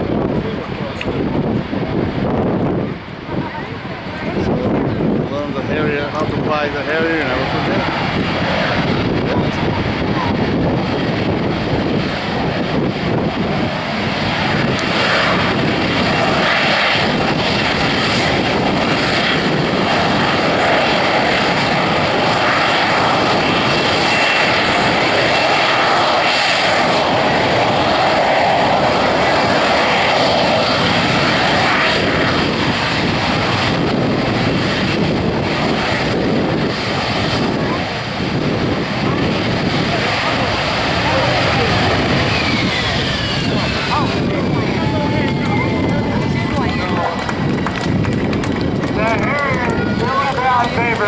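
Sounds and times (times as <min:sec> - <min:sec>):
jet engine roar: 0:00.0 - 0:51.0.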